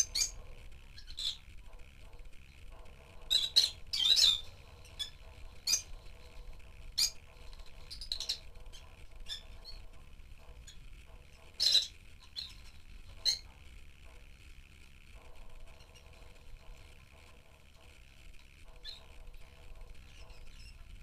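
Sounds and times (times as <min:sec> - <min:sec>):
lovebirds chirping and squawking: 0:00.0 - 0:13.6, 0:15.5 - 0:16.9, 0:18.6 - 0:21.0.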